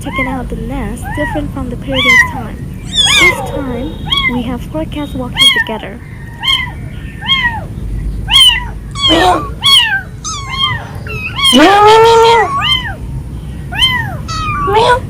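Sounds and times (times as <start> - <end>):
kittens meowing: 0.0 - 15.0.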